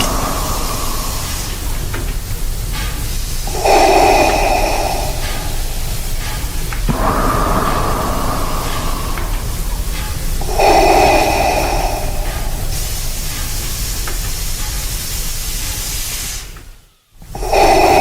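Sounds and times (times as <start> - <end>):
steady hissing: 0.0 - 18.0.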